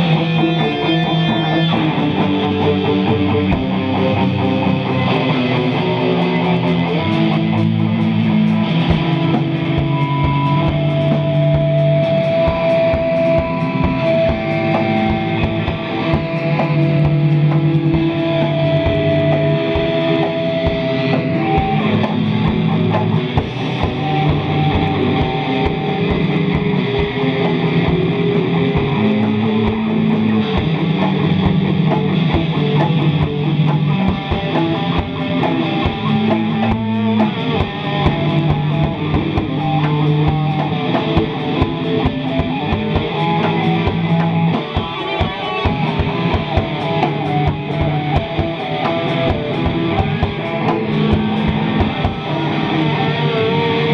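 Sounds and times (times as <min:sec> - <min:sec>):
loud layered noise drones: 0:00.0 - 0:53.9.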